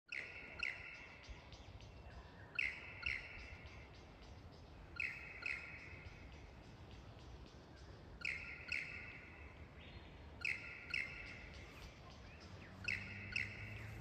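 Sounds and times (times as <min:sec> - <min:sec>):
low steady background noise: 0:00.1 - 0:14.0
lyrebird calling sharp notes: 0:00.1 - 0:14.0.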